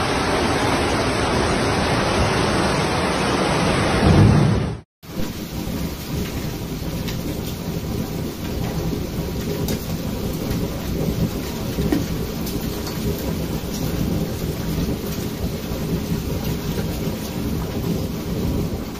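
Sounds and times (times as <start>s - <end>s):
torrential rain pouring: 0.0s - 18.9s.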